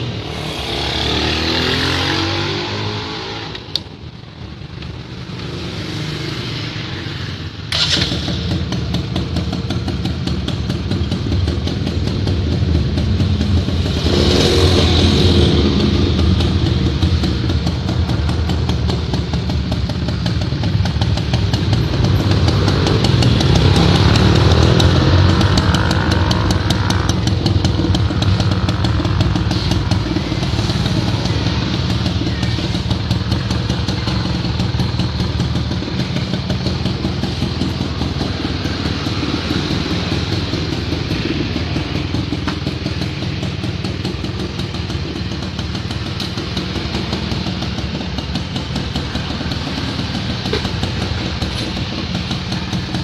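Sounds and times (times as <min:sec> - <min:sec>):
two-stroke engine revving: 0:00.0 - 0:03.8, 0:07.7 - 0:53.0.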